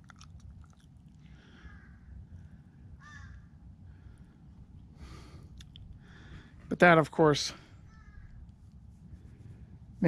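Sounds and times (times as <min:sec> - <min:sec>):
low steady rumble: 0:00.0 - 0:10.0
crows cawing faintly: 0:00.2 - 0:06.6, 0:07.5 - 0:09.7.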